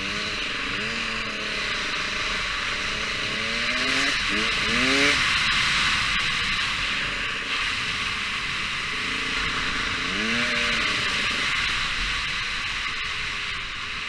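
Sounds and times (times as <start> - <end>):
motorbike engine revving: 0.0 - 14.0
steady loud hiss: 0.0 - 14.0.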